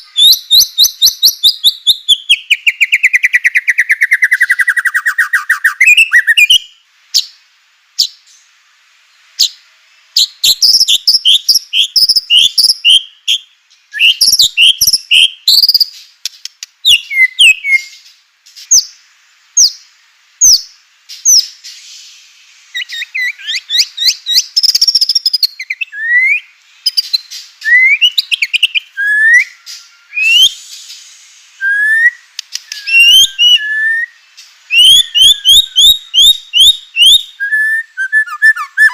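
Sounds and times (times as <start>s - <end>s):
rising whistled bird notes: 0.0s - 7.4s, 10.2s - 16.0s, 16.8s - 19.0s, 20.4s - 38.9s
bird singing: 0.0s - 38.9s.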